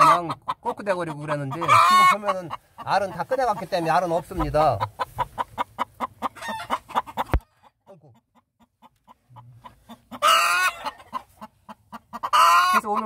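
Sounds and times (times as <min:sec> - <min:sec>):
hen squawking: 0:00.0 - 0:07.3, 0:09.3 - 0:13.0
hen clucking: 0:00.0 - 0:13.0.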